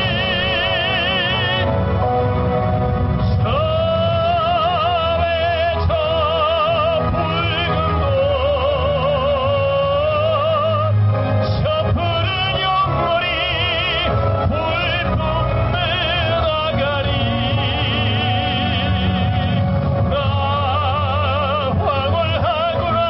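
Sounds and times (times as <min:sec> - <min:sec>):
man singing operatically: 0:00.0 - 0:02.0, 0:03.2 - 0:23.0
amplified instrumental accompaniment: 0:00.0 - 0:23.0.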